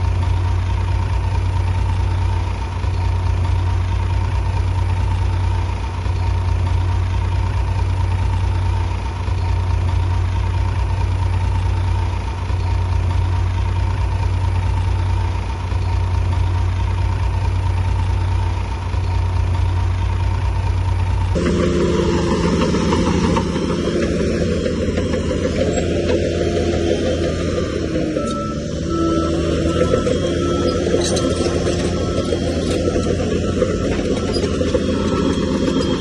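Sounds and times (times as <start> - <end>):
bulldozer diesel engine drone: 0.0 - 36.0.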